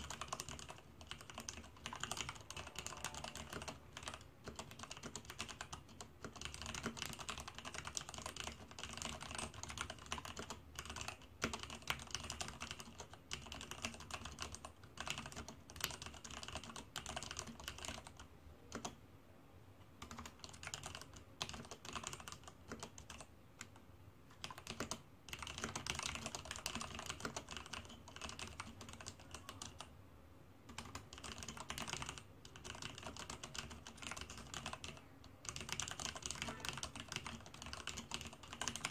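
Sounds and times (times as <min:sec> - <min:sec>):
mechanical keyboard typing: 0:00.0 - 0:19.0, 0:20.0 - 0:29.9, 0:30.7 - 0:38.9.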